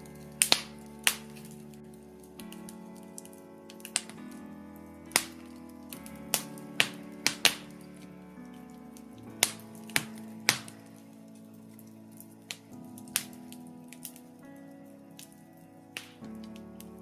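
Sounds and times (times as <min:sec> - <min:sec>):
soft background music: 0:00.0 - 0:17.0
wood fire crackling: 0:00.0 - 0:17.0.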